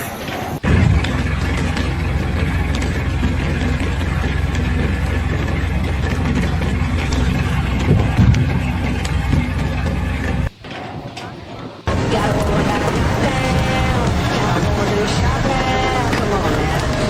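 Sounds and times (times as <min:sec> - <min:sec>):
engine idling: 0:00.6 - 0:10.5, 0:11.9 - 0:17.0.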